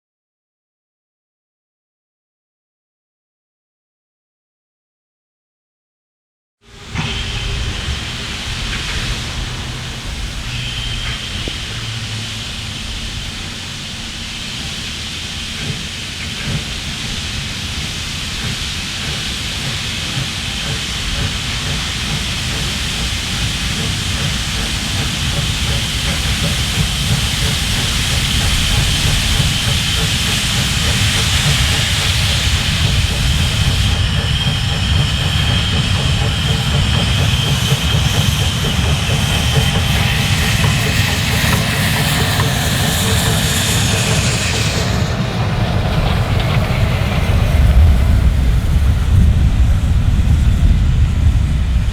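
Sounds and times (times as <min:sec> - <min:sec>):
steam train hiss and rumble: 0:06.6 - 0:51.9.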